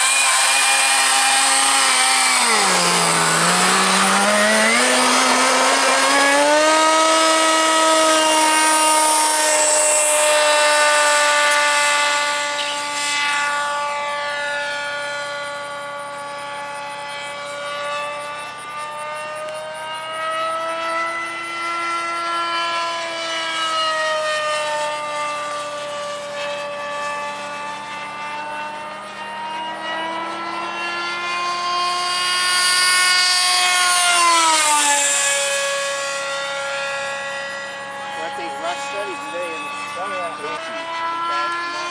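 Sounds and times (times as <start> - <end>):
model jet engine whine: 0.0 - 41.9.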